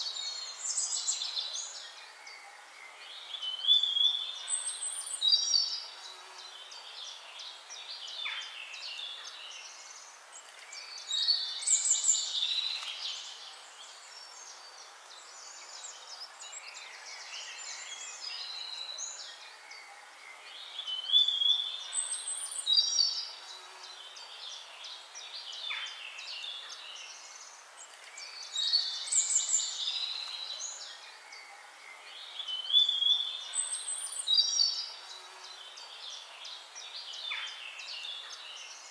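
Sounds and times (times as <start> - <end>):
faint steady hiss: 0.0 - 38.9
songbirds chirping and whistling: 0.0 - 38.9.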